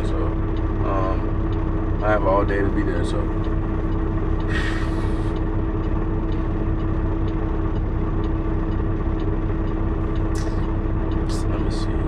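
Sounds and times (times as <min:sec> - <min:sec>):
diesel engine idling: 0:00.0 - 0:12.0
faint regular ticking: 0:00.0 - 0:12.0.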